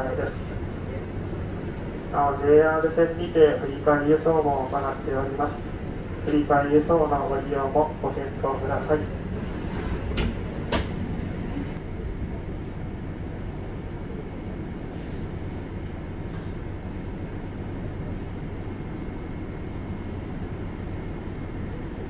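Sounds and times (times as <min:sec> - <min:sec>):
train car hum: 0:00.0 - 0:22.0.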